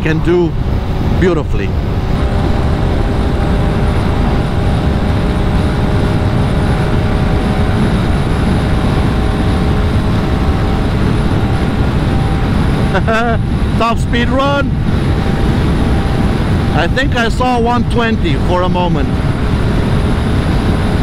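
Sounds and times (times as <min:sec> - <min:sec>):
scooter engine droning: 0:00.0 - 0:17.8
wind rush on microphone: 0:00.0 - 0:21.0.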